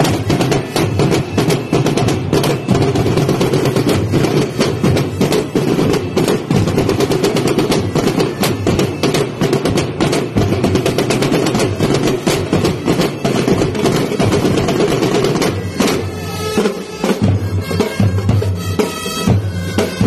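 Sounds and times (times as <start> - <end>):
marching drum line playing: 0.0 - 20.0.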